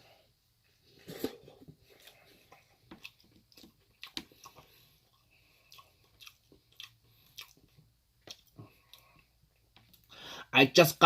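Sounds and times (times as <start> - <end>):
person chewing food: 1.1 - 10.1.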